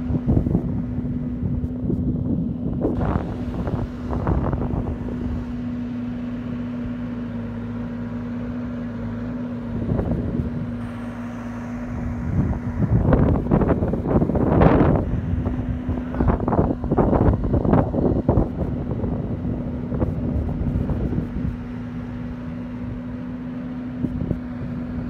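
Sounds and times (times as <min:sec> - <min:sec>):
wind buffeting microphone: 0:00.0 - 0:07.4, 0:09.5 - 0:25.0
earth-moving machine engine running: 0:00.0 - 0:25.0.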